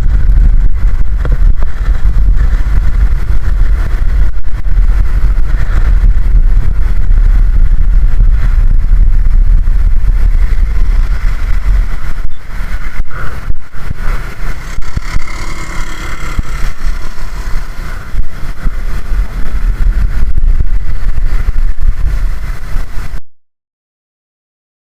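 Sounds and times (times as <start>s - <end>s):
vehicle engine and road rumble: 0.0s - 23.2s.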